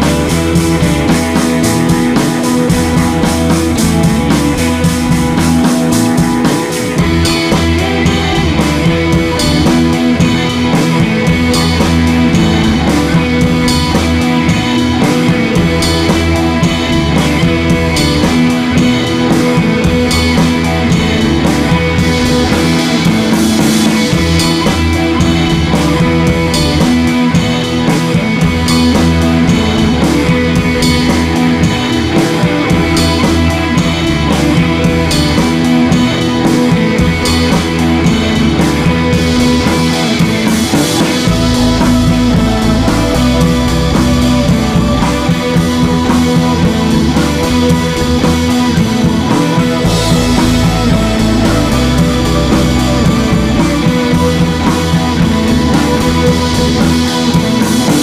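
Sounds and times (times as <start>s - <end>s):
rock music with guitar and drums: 0.0s - 58.0s.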